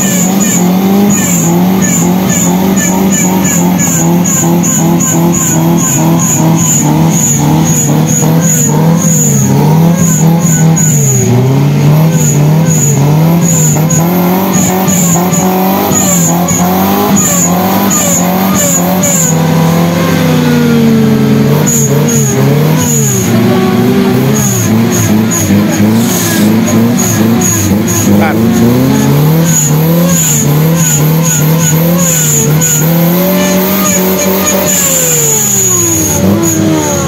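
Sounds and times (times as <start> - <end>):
engine revving under load: 0.0 - 37.0
vehicle churning through mud: 0.0 - 37.0.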